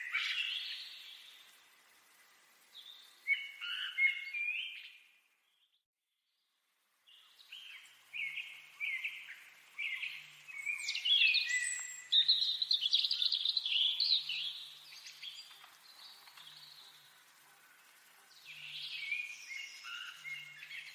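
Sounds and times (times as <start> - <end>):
birds chirping and trilling: 0.0 - 1.5, 2.7 - 5.8, 7.1 - 20.9.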